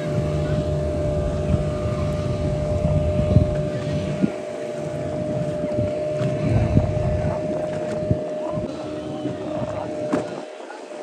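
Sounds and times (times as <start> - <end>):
wind buffeting microphone: 0.0 - 10.6
motorboat engine running: 0.0 - 11.0.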